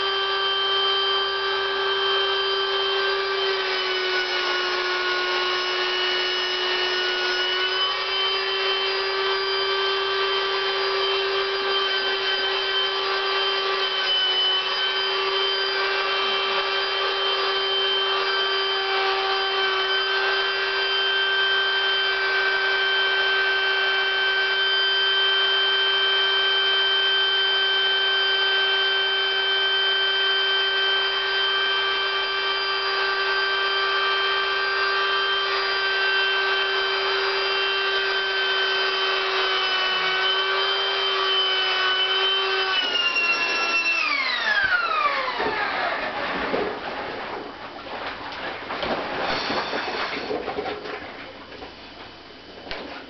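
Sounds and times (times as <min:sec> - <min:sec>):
electric air pump humming: 0:00.0 - 0:47.6, 0:48.2 - 0:53.0.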